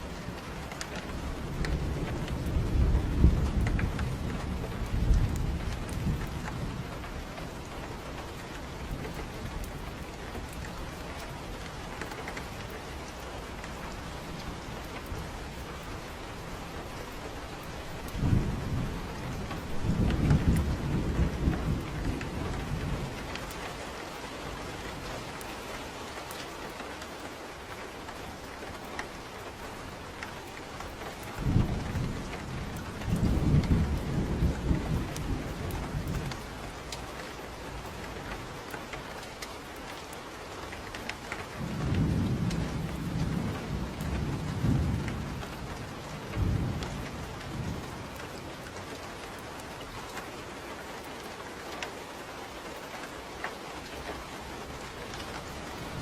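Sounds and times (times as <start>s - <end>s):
thunder rumbling: 0.0s - 39.8s, 40.7s - 51.4s, 53.5s - 56.0s
steady rain falling: 0.0s - 56.0s.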